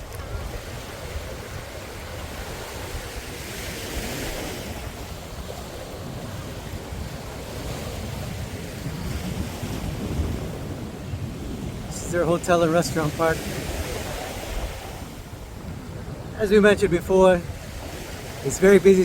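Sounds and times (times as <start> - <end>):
waves washing onto sand: 0.0 - 19.0
wind rumbling on microphone: 0.0 - 19.0.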